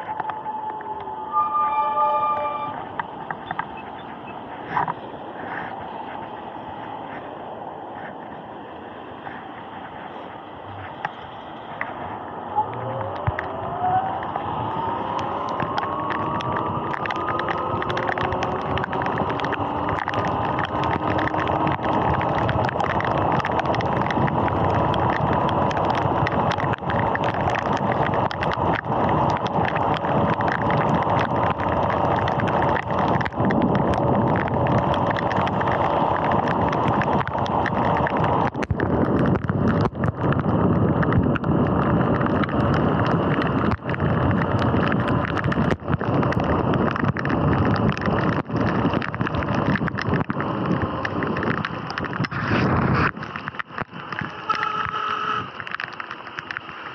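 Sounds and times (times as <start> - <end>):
wind: 0.0 - 56.9
tyres hissing on wet road: 2.2 - 56.9.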